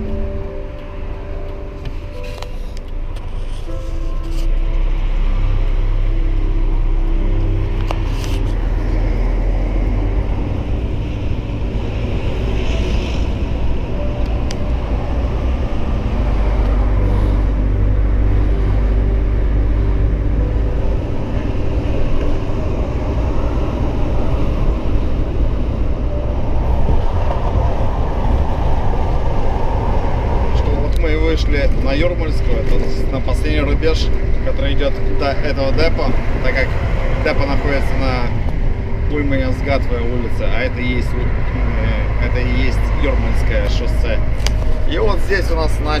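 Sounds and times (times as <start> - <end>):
lorry diesel engine running: 0.0 - 46.0
road noise: 0.0 - 46.0.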